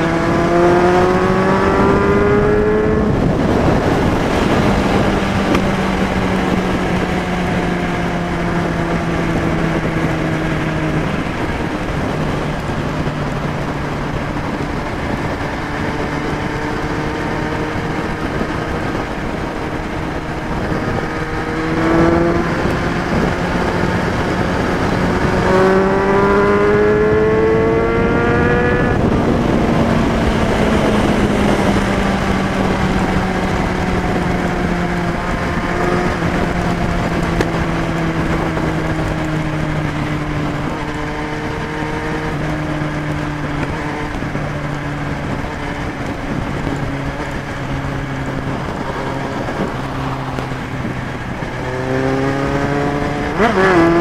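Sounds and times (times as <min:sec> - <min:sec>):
motorcycle engine revving: 0:00.0 - 0:54.0
steady rushing noise: 0:00.0 - 0:54.0.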